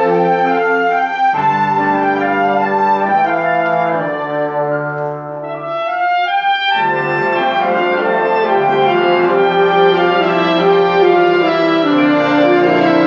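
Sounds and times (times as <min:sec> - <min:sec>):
instrumental ensemble music: 0:00.0 - 0:13.0.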